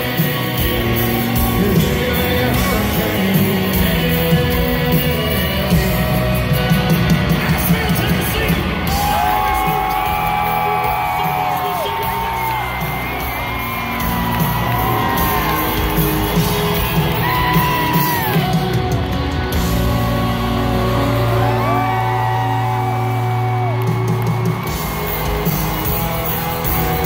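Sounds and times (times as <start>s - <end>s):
crowd whooping and yelling: 0.0s - 27.0s
live country band playing: 0.0s - 27.0s.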